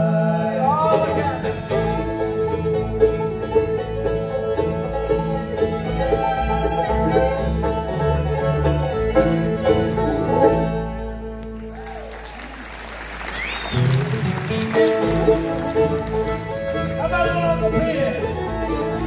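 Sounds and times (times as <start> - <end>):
banjo: 0.0 - 11.9, 13.7 - 19.0
mandolin: 0.0 - 12.7, 13.3 - 19.0
acoustic guitar: 0.0 - 19.0
fiddle: 0.0 - 19.0
upright bass: 0.0 - 19.0.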